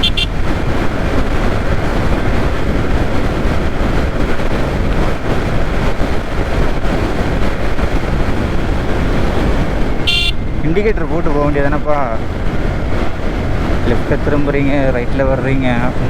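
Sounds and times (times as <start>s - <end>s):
road noise: 0.0s - 16.0s
wind buffeting microphone: 0.0s - 16.0s
wind rush: 0.0s - 16.0s.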